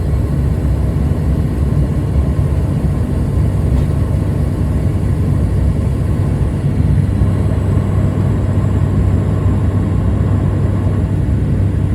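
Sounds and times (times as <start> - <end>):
jet engine drone in cabin: 0.0 - 11.9.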